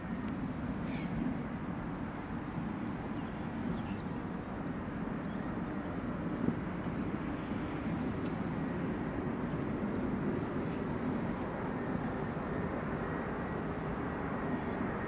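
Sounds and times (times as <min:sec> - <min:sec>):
distant jet engines droning: 0:00.0 - 0:15.0.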